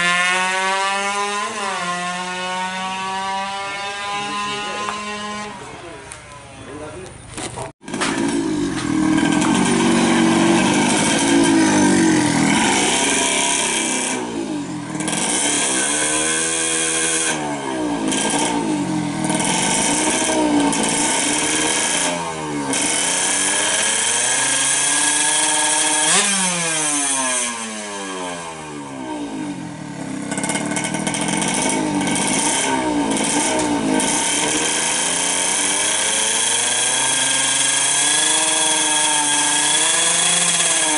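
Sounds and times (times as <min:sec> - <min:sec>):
two-stroke engine revving: 0:00.0 - 0:06.2, 0:07.4 - 0:40.9.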